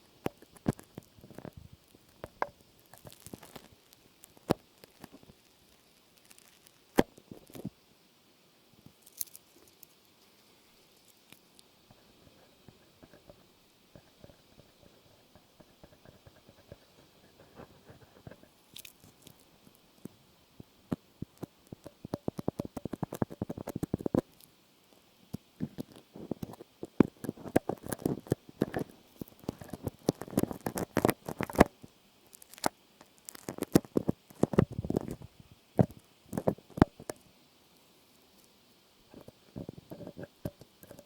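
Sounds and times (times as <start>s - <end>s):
small clicks and crackles: 0.0s - 7.8s, 8.7s - 41.0s.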